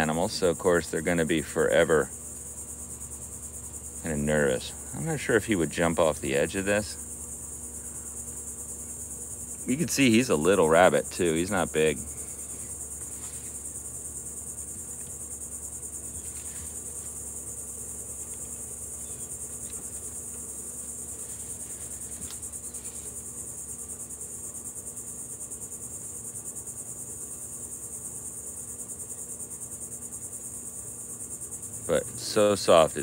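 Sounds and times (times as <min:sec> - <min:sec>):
faint low hum: 0:00.0 - 0:33.0
insect chorus trilling: 0:00.0 - 0:33.0.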